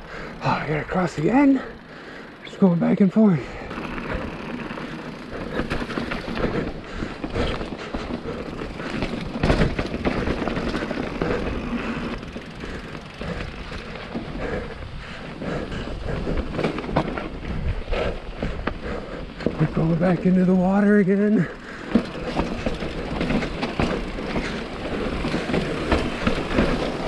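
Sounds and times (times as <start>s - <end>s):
bike knocking and rattling: 0.0s - 27.0s
bike tyres grinding over rock: 0.0s - 27.0s.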